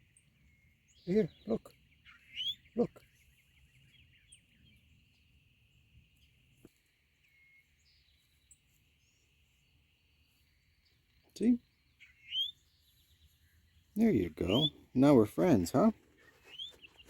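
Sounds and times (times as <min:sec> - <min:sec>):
faint bird chirps: 0:00.0 - 0:15.2, 0:16.1 - 0:17.0.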